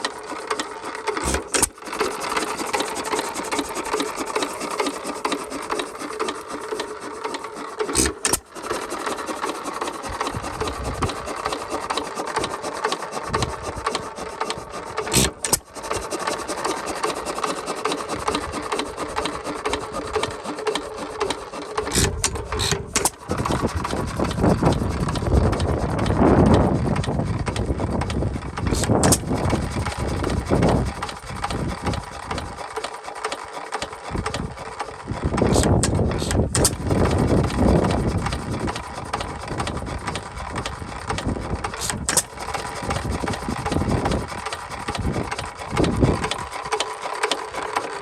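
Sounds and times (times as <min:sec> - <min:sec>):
hit-and-miss engine clattering: 0:00.0 - 0:48.0.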